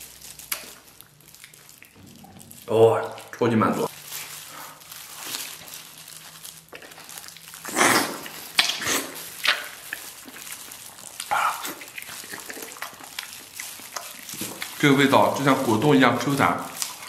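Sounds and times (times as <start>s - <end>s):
man chewing and eating: 0.0s - 17.0s.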